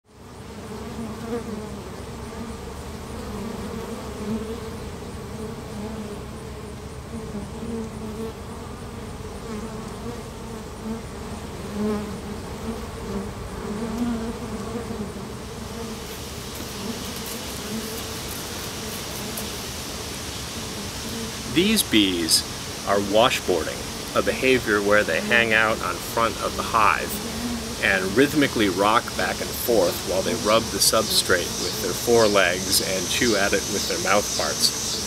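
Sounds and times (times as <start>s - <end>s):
honey bees buzzing: 0.1s - 35.0s.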